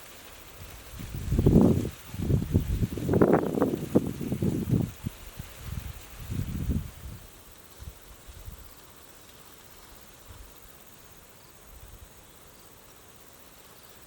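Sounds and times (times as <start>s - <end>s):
insects chirring: 0.0s - 14.0s
steady hiss: 0.0s - 14.0s.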